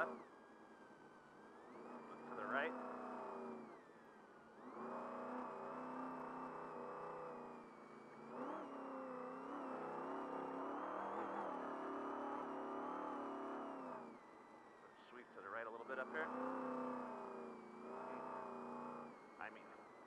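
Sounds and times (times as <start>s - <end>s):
truck engine accelerating: 0.0s - 0.4s, 1.2s - 20.0s.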